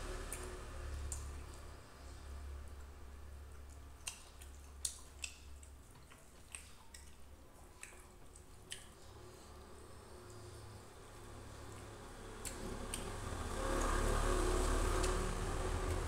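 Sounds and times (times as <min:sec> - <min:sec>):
low steady hum: 0:00.0 - 0:16.0
chewing: 0:00.2 - 0:16.0.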